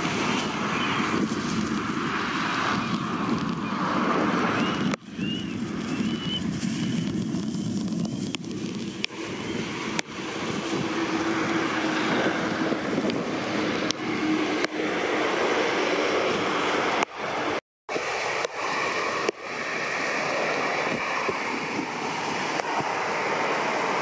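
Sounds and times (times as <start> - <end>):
heavy rain: 0.0 - 24.0
wind buffeting microphone: 0.0 - 24.0.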